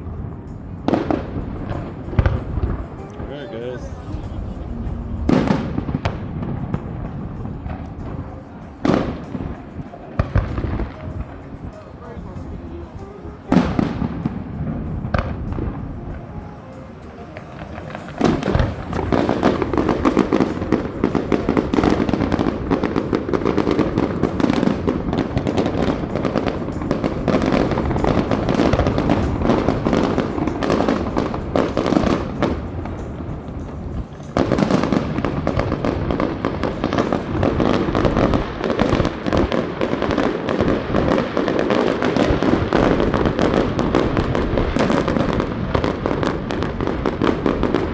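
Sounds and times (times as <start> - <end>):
fireworks bangs: 0.0 - 47.9
rapid crackling fireworks barrage: 0.0 - 47.9.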